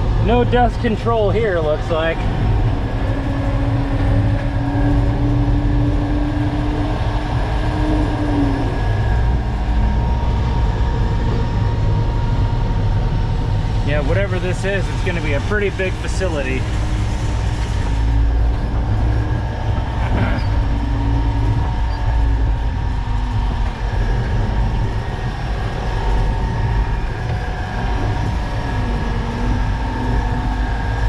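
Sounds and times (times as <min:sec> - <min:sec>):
thin steady whine: 0:00.0 - 0:31.0
truck engine rumble: 0:00.0 - 0:31.0.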